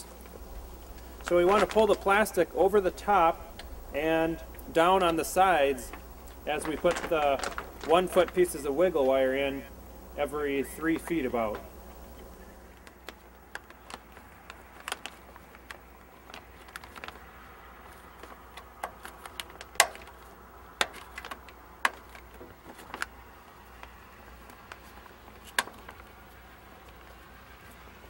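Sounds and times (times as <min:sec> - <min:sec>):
plastic film crinkling: 0:00.2 - 0:27.9.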